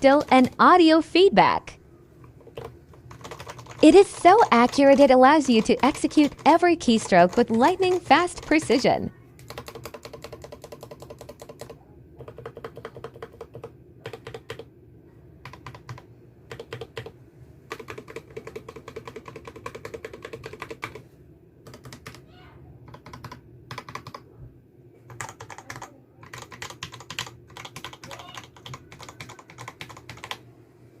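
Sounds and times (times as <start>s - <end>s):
mechanical keyboard typing: 0.0s - 0.7s, 2.4s - 14.7s, 15.4s - 17.1s, 17.7s - 21.0s, 21.6s - 22.2s, 22.9s - 24.2s, 25.1s - 30.4s.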